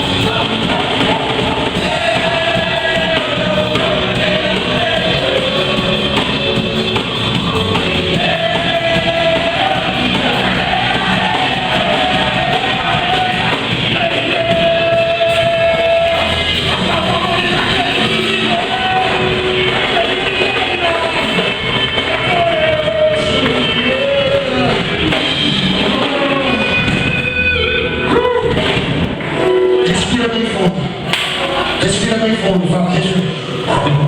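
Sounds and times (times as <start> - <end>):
people singing: 0.0 - 28.7, 31.0 - 34.0
guitar: 0.0 - 34.0
worship band playing: 0.0 - 34.0.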